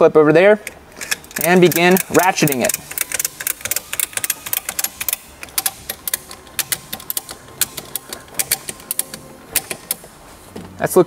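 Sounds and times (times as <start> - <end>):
ratchet strap clicking: 0.6 - 10.2.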